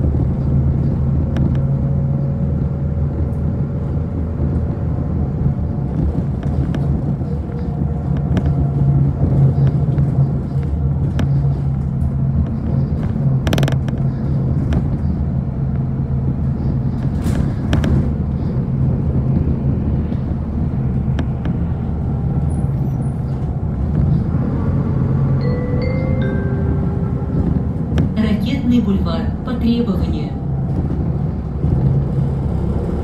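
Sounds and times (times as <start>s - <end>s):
bus engine and road noise: 0.0s - 33.0s.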